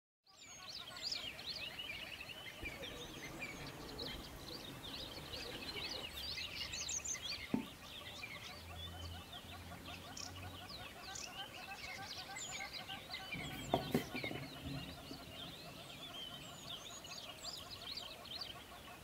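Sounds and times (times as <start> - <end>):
small birds chirping: 0.3 - 19.0.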